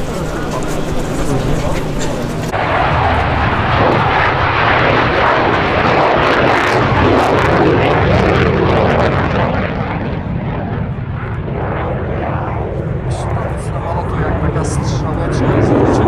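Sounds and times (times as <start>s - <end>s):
fighter jet roaring: 0.0s - 16.0s.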